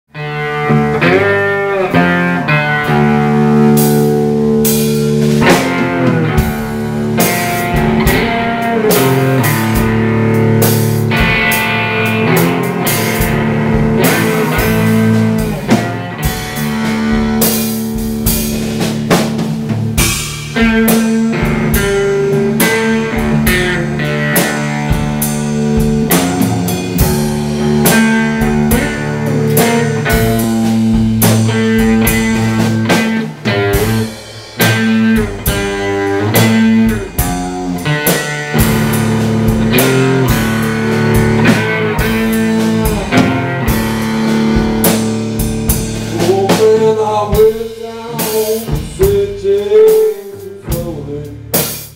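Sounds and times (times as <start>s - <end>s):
blues-rock guitar: 0.1s - 51.9s
drum kit steady beat: 0.4s - 51.9s.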